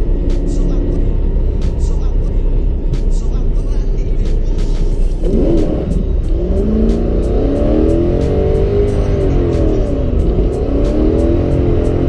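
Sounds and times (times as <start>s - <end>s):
background music with steady beat: 0.0s - 12.0s
car engine revving: 0.0s - 12.0s.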